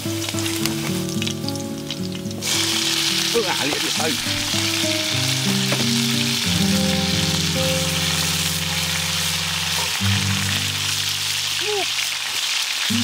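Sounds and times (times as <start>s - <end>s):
background music: 0.0s - 11.4s
food sizzling in a pan: 0.0s - 13.0s.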